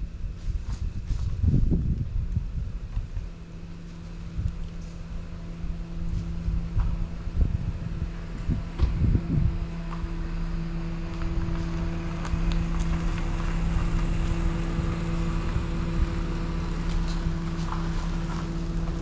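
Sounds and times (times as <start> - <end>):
quadcopter motors humming: 1.6 - 19.0.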